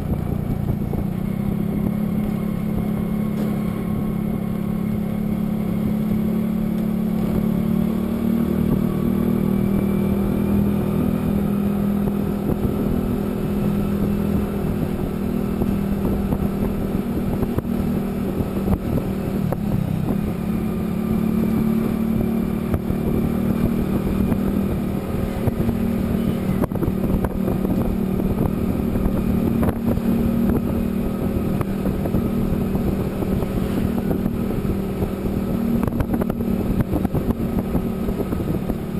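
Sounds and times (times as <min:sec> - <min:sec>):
road noise: 0:00.0 - 0:38.9
vehicle engine humming: 0:00.0 - 0:38.9.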